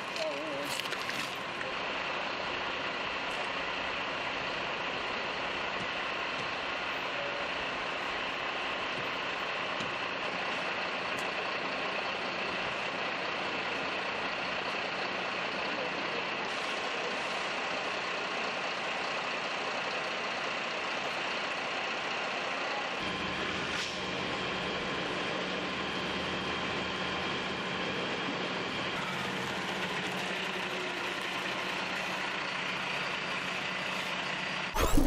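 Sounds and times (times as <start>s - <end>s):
heavy engine humming: 0.0s - 35.0s.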